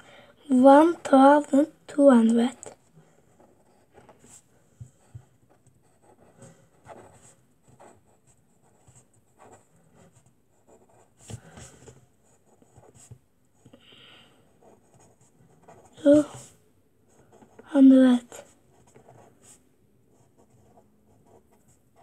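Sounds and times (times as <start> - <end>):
pen scratching on paper: 2.3 - 13.2, 14.5 - 22.0.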